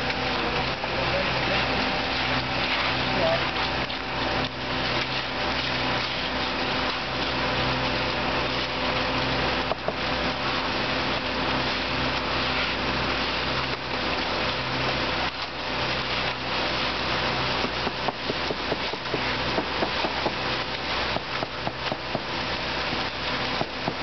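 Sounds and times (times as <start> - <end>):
machine engine running: 0.0 - 24.0.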